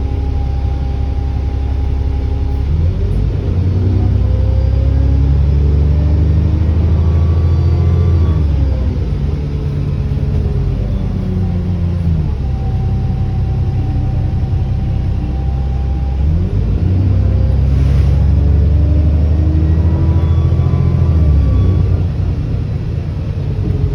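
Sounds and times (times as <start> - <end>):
bus diesel engine pulling: 0.0 - 23.9
turbocharger whine: 0.0 - 23.9.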